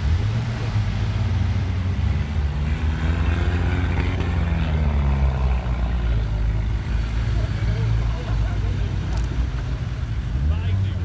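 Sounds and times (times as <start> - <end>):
jeep engine revving: 0.0 - 11.0.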